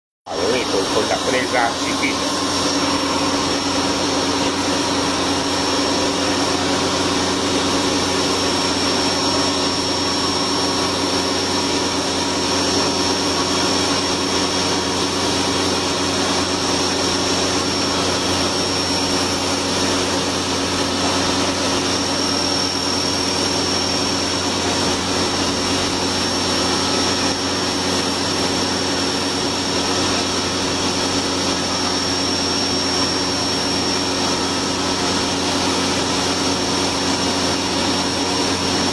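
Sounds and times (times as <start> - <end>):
high spindle whine: 0.3 - 38.9
machine cutting noise: 0.3 - 38.9.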